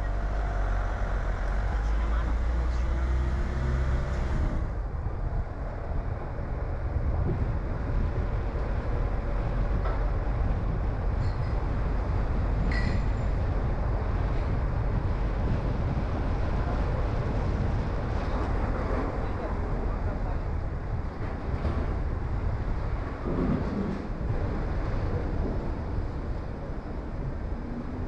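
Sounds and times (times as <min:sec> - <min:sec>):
car driving rumble: 0:00.0 - 0:28.0.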